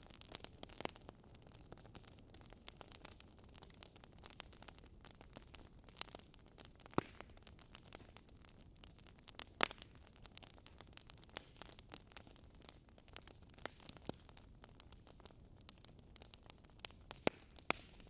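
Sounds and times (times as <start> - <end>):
faint fire hiss: 0.0 - 18.0
wood fire crackling: 0.0 - 18.0.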